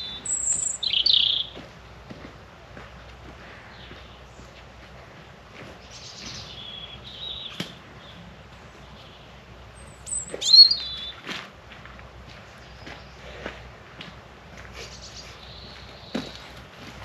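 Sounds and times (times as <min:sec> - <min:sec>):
small birds chirping: 0:00.0 - 0:01.8, 0:02.9 - 0:11.3, 0:11.9 - 0:13.7, 0:14.6 - 0:17.0.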